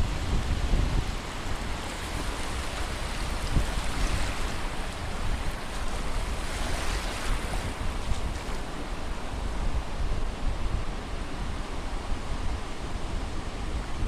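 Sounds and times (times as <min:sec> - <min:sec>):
surf washing on a beach: 0:00.0 - 0:14.0
wind buffeting the microphone: 0:00.0 - 0:14.0.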